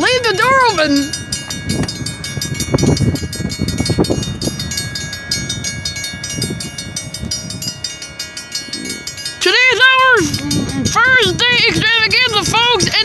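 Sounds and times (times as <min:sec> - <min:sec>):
railroad crossing bells ringing: 0:00.0 - 0:13.0.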